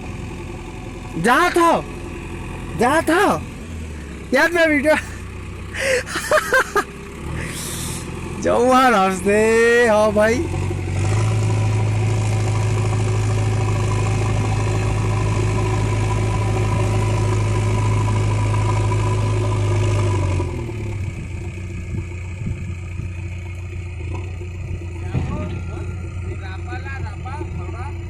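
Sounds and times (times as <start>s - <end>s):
diesel engine running hard: 0.0s - 28.0s.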